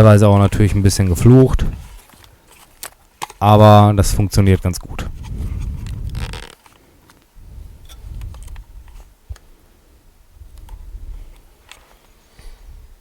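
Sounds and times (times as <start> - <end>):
low rustling handling noise: 0.0 - 9.8, 10.4 - 13.0.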